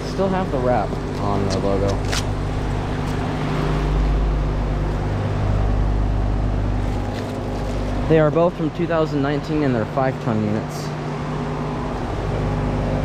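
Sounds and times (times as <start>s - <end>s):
compressor hum: 0.0s - 13.0s
condenser fans air rush: 0.0s - 13.0s.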